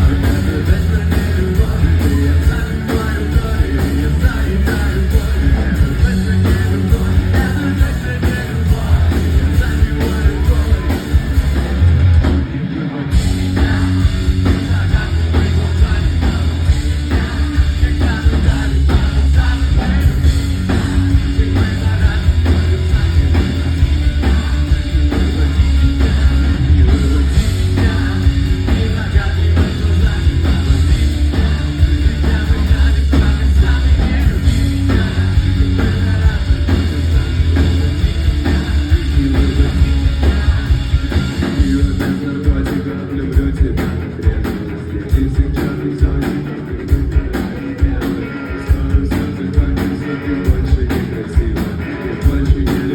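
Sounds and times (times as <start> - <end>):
loud bass and drums: 0.0 - 52.9
rock band playing live: 0.0 - 52.9.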